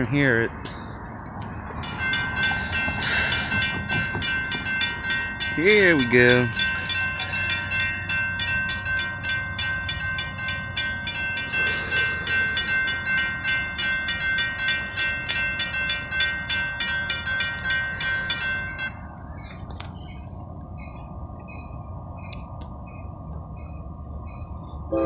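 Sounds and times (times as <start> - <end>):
railroad crossing bell ringing: 0.0 - 25.0.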